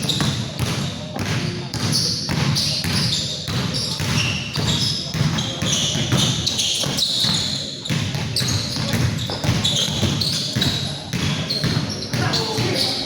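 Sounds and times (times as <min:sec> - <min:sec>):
shoe squeaks: 0:00.0 - 0:00.4, 0:01.8 - 0:13.0
basketball bouncing on court: 0:00.0 - 0:13.0
players' voices: 0:00.0 - 0:13.0.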